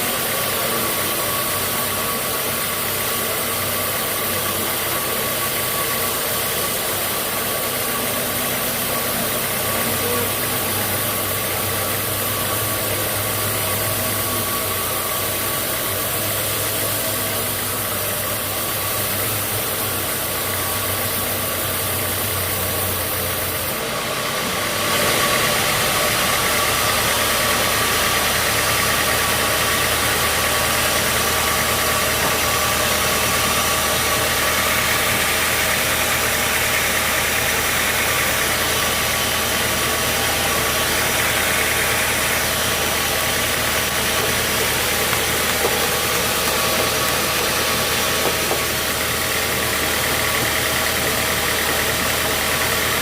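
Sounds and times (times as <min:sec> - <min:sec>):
engine drone: 0:00.0 - 0:53.0
machinery whine: 0:00.0 - 0:53.0.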